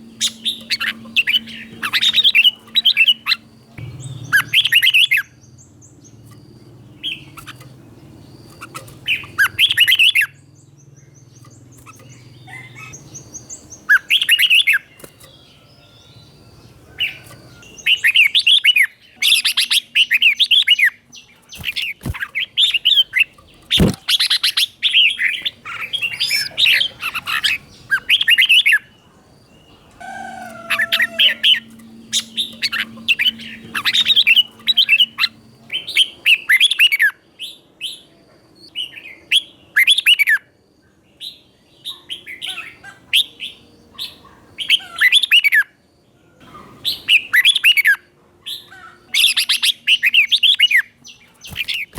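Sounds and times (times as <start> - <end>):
bird singing warbled phrases: 0.0 - 40.5, 41.1 - 51.9.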